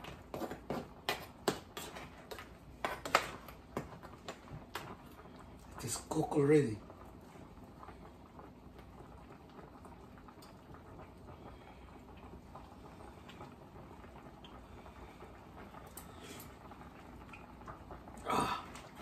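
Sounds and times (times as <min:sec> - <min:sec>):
pot simmering faintly: 0:00.0 - 0:19.0.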